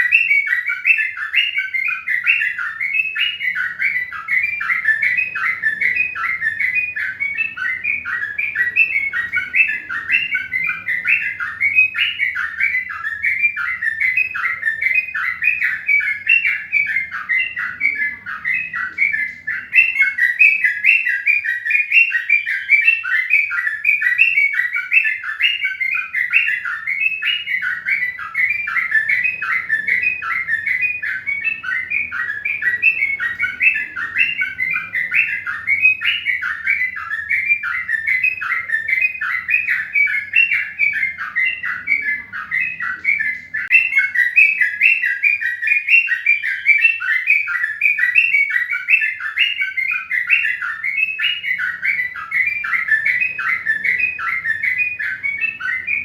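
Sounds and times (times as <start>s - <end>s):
rapid bird chirps: 0.0s - 56.0s.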